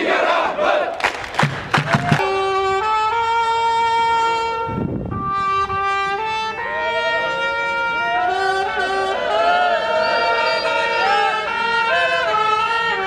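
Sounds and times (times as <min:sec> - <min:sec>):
trumpet long held notes: 0:02.2 - 0:13.0.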